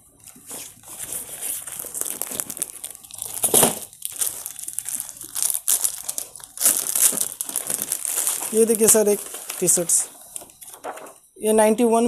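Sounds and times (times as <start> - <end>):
packaging rustling and crinkling: 0.2 - 11.2.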